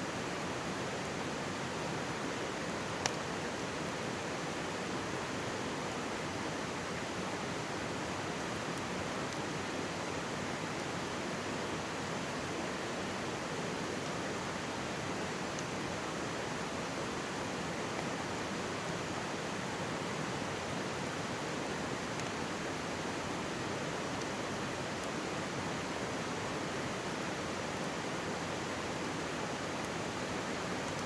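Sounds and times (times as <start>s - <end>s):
mountain stream babbling: 0.1s - 31.0s
campfire crackles: 0.2s - 4.7s, 6.6s - 31.0s.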